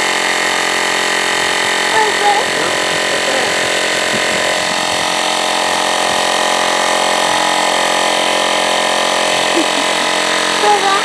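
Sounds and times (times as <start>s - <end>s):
portable tire inflator running: 0.0s - 11.0s.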